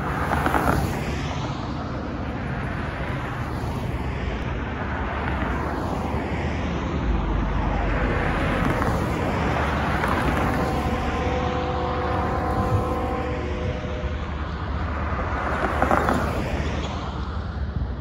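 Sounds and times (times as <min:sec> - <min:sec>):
cars passing close by: 0:00.0 - 0:18.0.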